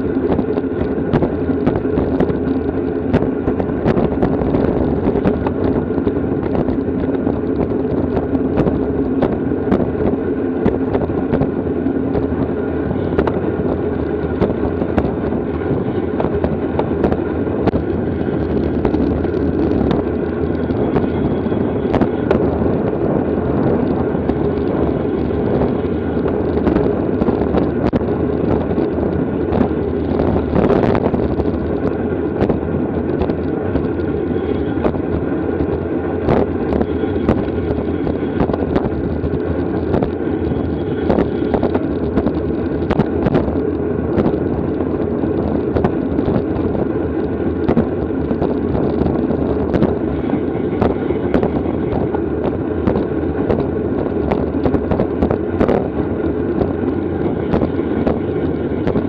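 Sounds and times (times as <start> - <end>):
bicycle road noise: 0.0 - 59.0
wind rushing: 0.0 - 59.0.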